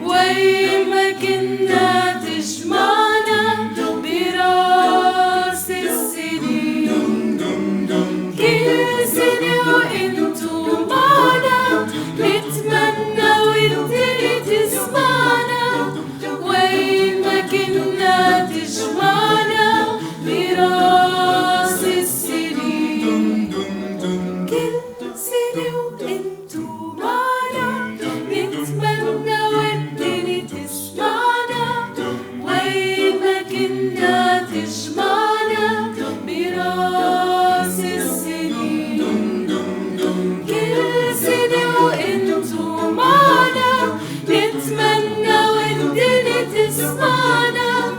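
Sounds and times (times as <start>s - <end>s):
choir singing a cappella: 0.0s - 47.9s.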